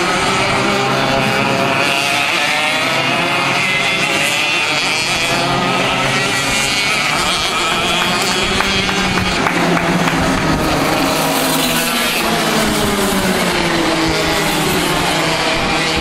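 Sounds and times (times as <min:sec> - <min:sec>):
kart engines racing past: 0:00.0 - 0:16.0.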